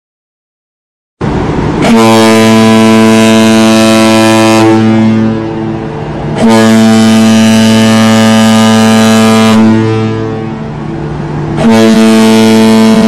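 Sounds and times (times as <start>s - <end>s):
ship's horn blasts: 1.2s - 13.0s.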